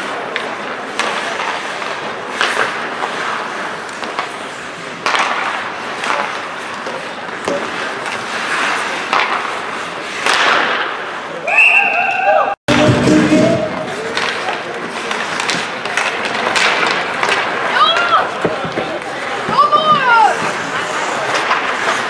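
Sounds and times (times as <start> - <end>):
hockey sticks and puck clacking: 0.0 - 12.0, 12.7 - 22.0
skates scraping on ice: 0.0 - 22.0.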